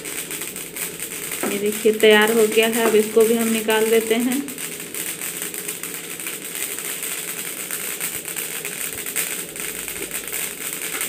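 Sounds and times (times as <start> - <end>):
seeds crackling and popping in pan: 0.0 - 11.0.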